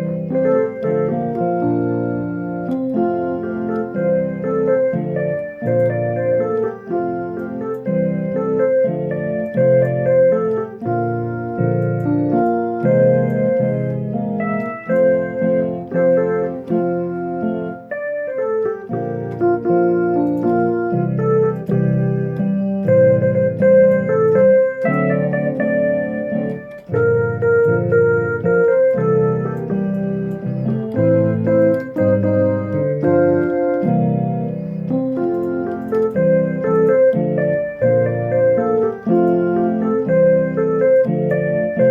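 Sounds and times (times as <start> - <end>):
keyboard playing chords and melody: 0.0 - 41.9.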